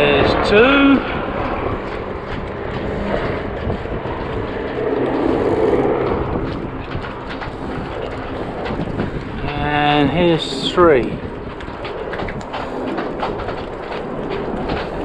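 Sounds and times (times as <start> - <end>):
propeller aircraft drone: 0.0 - 15.0.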